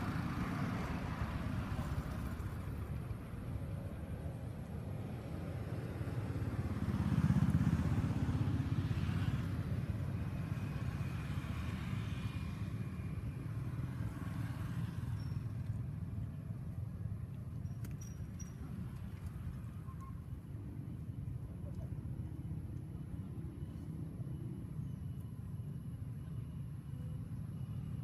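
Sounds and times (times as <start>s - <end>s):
passing vehicle engine rumble: 0.0s - 28.0s.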